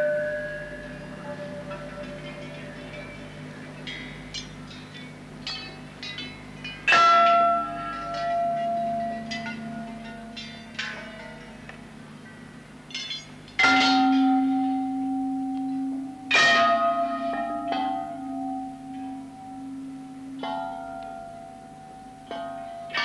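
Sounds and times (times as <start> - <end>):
bells ringing: 0.0 - 23.0.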